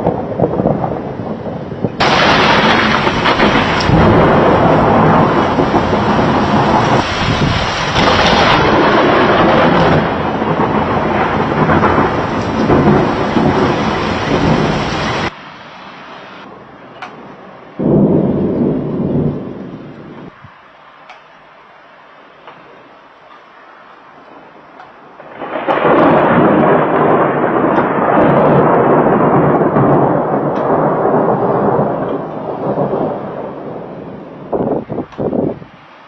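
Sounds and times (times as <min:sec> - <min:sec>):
thunder rumbling: 0:00.0 - 0:20.8, 0:21.4 - 0:36.0
heavy rain: 0:00.0 - 0:36.0.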